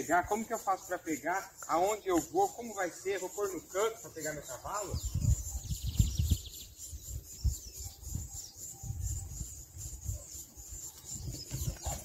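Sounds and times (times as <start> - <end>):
bird trilling: 0.0 - 12.0.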